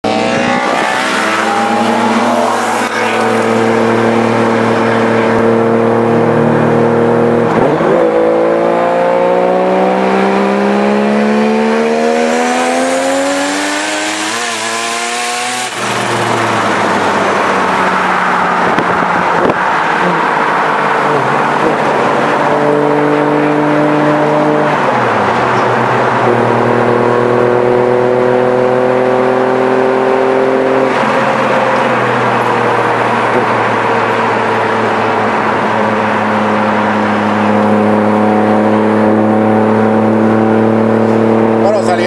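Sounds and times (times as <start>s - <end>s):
car engine accelerating: 0.0s - 42.0s
road and wind noise: 0.0s - 42.0s.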